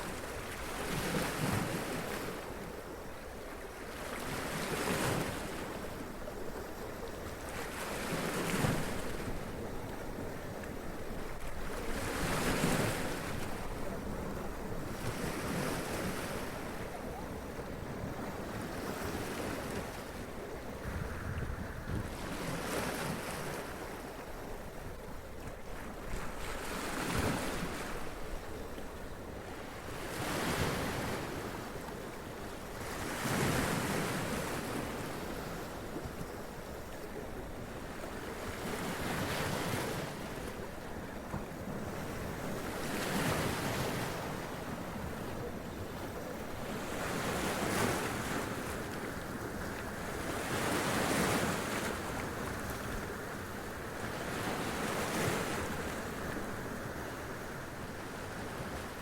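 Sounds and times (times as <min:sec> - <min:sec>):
surf wash: 0:00.0 - 0:59.0.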